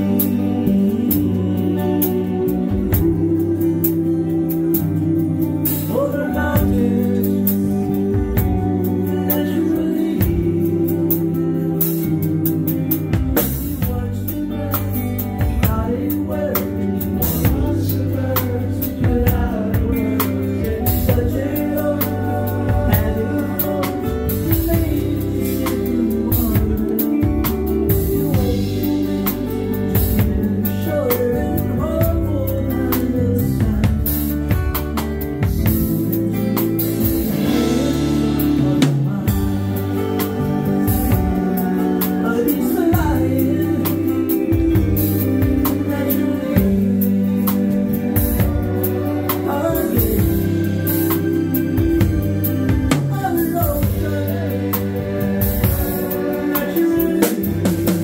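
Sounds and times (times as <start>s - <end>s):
drum kit beat: 0.0s - 58.0s
electric guitar: 0.0s - 58.0s
person singing: 0.0s - 58.0s
strummed acoustic guitar: 0.0s - 58.0s.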